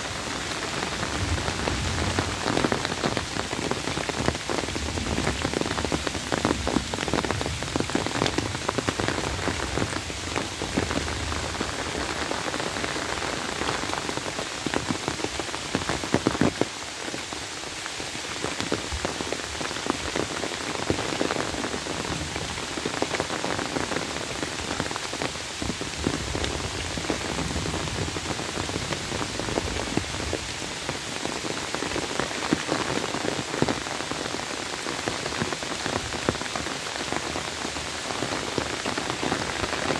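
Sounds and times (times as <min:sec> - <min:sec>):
close raindrops striking: 0:00.0 - 0:39.9
rain falling on trees: 0:00.0 - 0:39.9.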